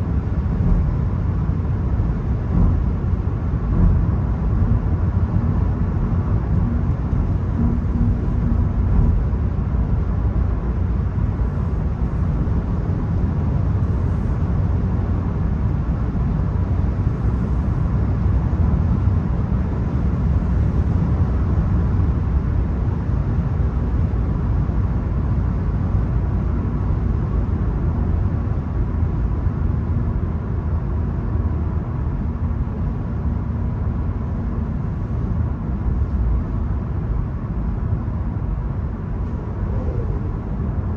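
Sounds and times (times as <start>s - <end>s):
faint engine tone: 0.0s - 18.2s, 19.7s - 40.9s
car road and engine noise: 0.0s - 40.9s.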